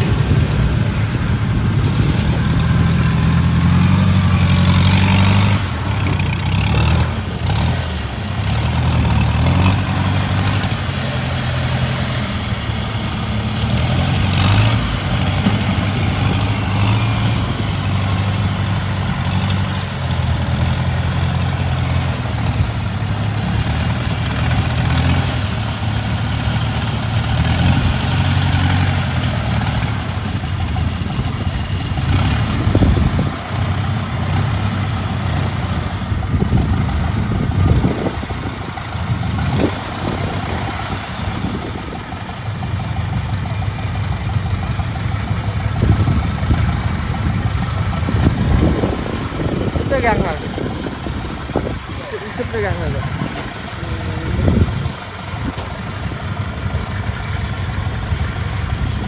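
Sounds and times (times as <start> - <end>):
farm machine engine running: 0.0 - 59.0.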